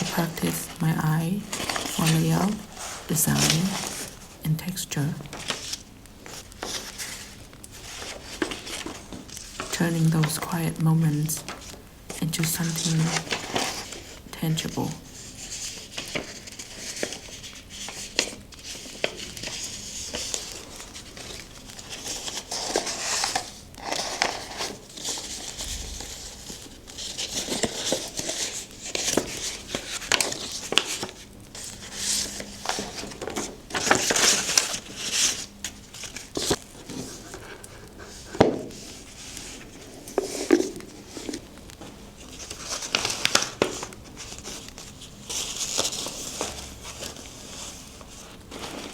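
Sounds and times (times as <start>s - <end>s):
paper rustling and crinkling: 0.0s - 48.9s.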